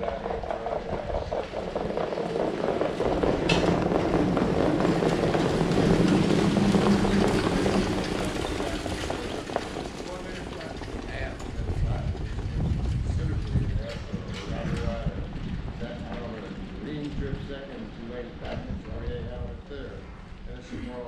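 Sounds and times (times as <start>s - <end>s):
many hoofbeats on dirt: 0.0s - 17.3s
sulky wheels rolling: 0.0s - 19.7s.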